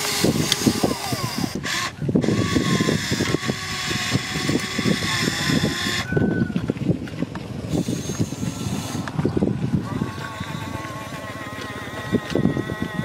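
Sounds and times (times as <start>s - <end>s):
electric motors whining: 0.0s - 6.1s, 7.7s - 13.0s.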